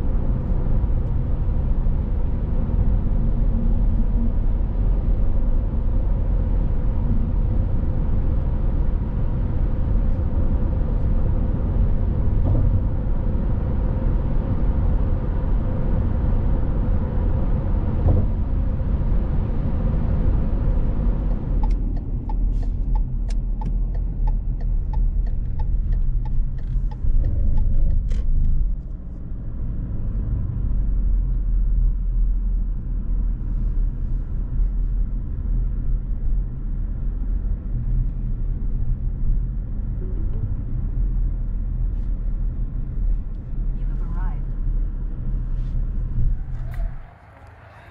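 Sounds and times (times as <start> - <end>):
road and tyre noise in car: 0.0 - 47.9.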